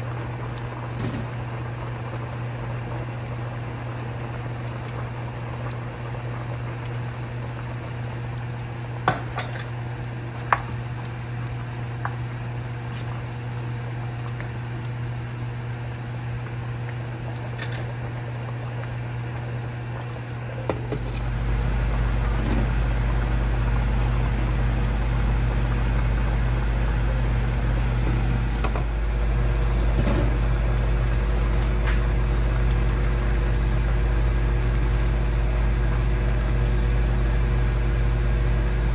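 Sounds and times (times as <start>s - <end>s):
low mechanical hum: 0.0s - 38.9s
pot of broth simmering: 0.0s - 38.9s.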